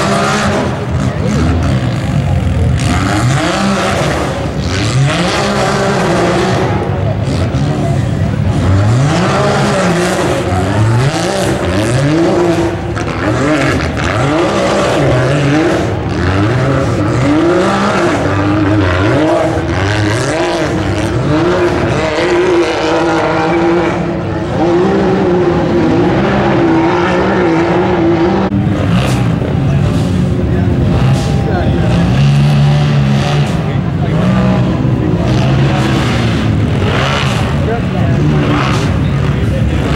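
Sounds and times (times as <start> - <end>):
buggy engine revving hard: 0.0 - 39.9.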